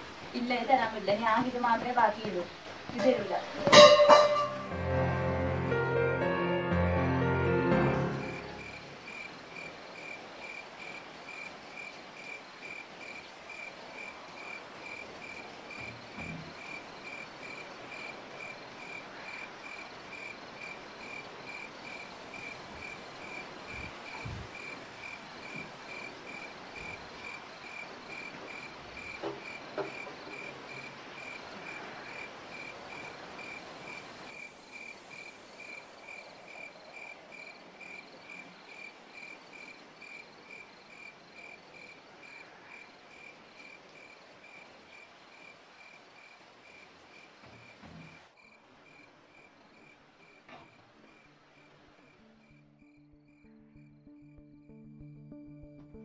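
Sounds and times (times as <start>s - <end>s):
crickets chirping: 7.8s - 55.7s.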